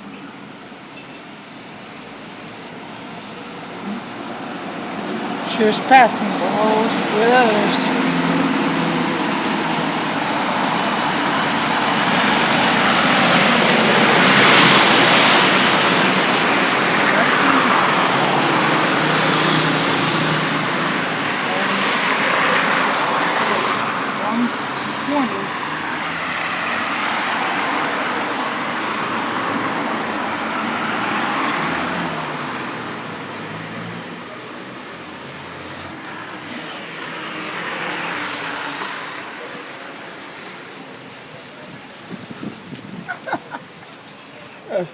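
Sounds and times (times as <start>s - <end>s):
vehicle passing by: 3.7s - 44.8s.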